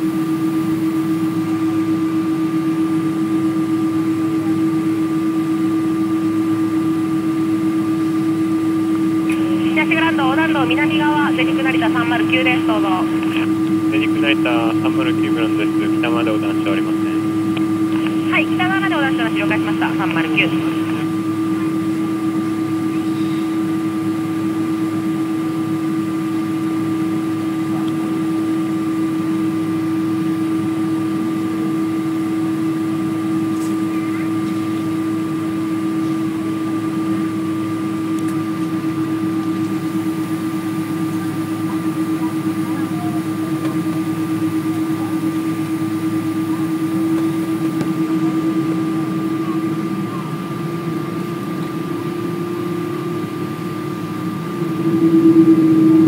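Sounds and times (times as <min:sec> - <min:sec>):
aircraft engines idling: 0:00.0 - 0:56.0
faint high engine whine: 0:00.0 - 0:56.0.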